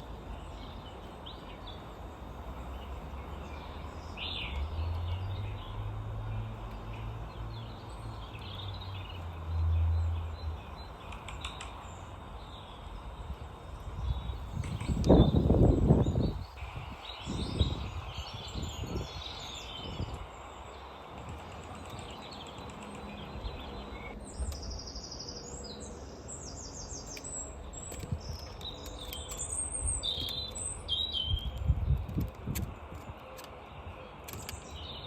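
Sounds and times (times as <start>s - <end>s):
outdoor background noise: 0.0s - 35.0s
small birds chirping: 0.0s - 35.0s.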